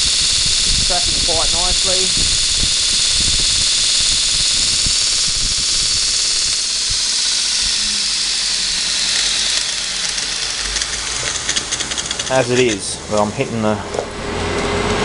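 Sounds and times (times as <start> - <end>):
belt sander running: 0.0 - 15.0.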